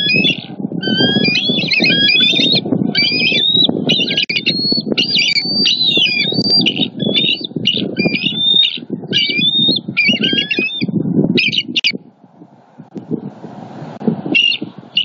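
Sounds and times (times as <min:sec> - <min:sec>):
eagles chirping and squealing: 0:00.0 - 0:12.0, 0:14.3 - 0:15.0
low rumbling noise: 0:00.0 - 0:15.0.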